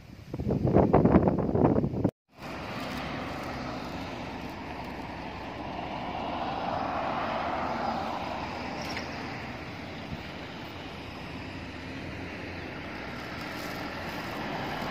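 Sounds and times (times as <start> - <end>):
road traffic passing: 2.3 - 14.9.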